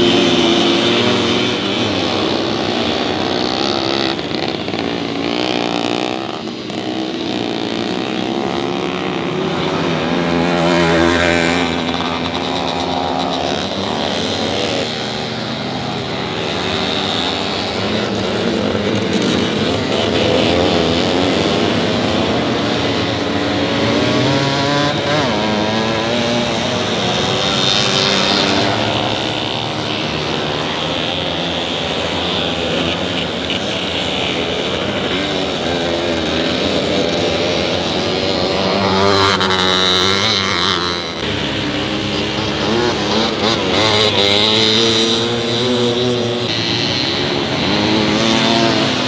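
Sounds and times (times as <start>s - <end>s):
motorcycle engines revving: 0.0s - 49.0s.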